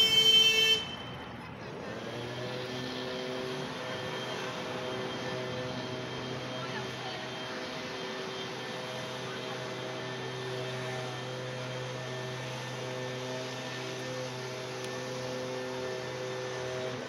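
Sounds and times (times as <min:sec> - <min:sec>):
droning hum: 0:00.0 - 0:17.0
street noise: 0:00.0 - 0:17.0.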